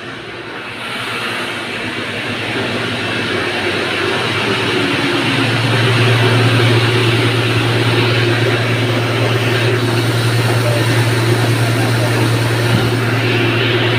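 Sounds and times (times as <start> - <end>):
electric flour mill humming: 0.0 - 13.9.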